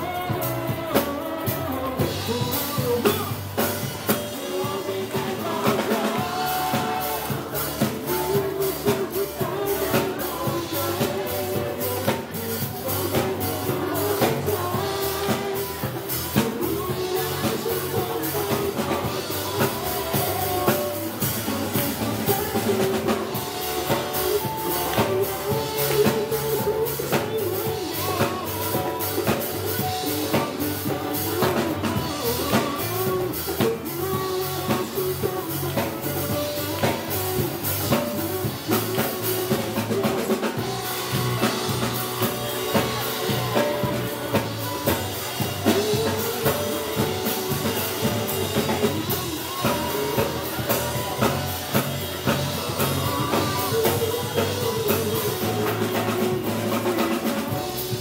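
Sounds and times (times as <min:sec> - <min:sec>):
drum kit beat: 0:00.0 - 0:58.0
guitar: 0:00.0 - 0:58.0
keyboard: 0:00.0 - 0:58.0
people singing into microphones: 0:00.0 - 0:58.0.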